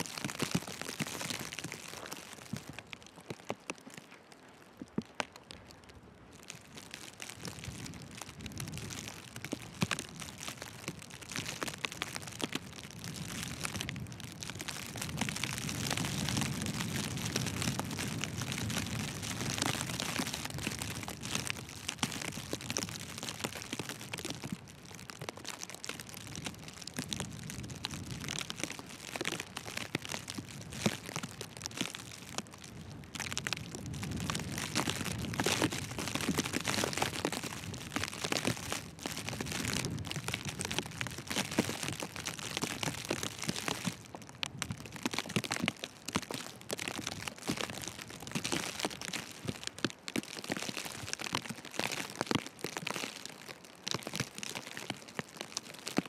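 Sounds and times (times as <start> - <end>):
wind rumble on microphone: 5.5 - 53.0.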